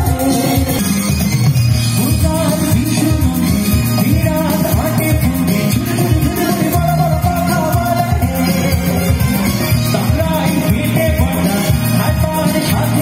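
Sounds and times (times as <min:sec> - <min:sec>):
live band with singer: 0:00.0 - 0:13.0
strong bass line: 0:00.0 - 0:13.0.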